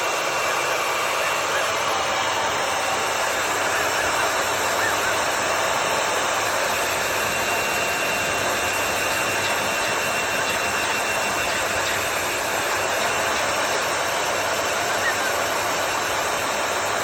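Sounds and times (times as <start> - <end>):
hairdryer running: 0.0 - 17.0.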